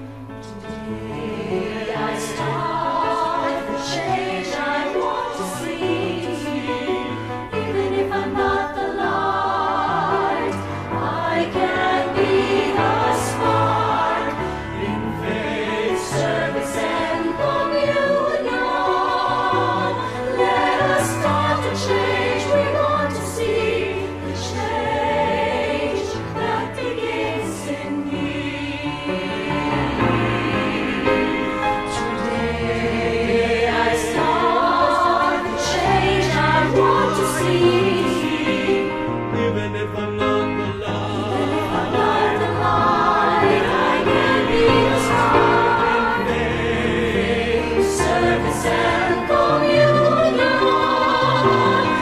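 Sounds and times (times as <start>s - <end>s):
choir singing: 0.0s - 52.0s.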